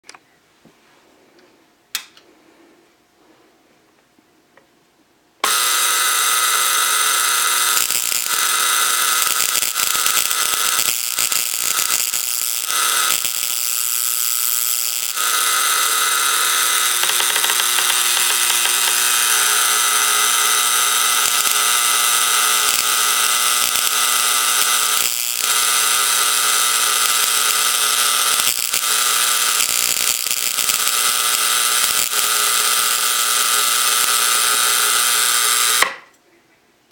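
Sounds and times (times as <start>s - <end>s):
high-voltage coil buzzing: 5.4s - 36.1s.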